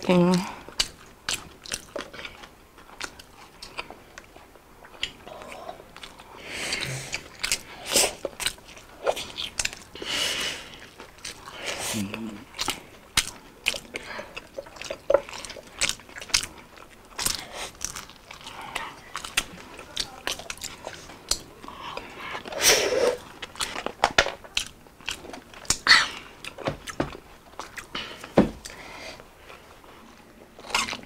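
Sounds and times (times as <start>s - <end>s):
people chewing crispy food: 0.0s - 31.0s.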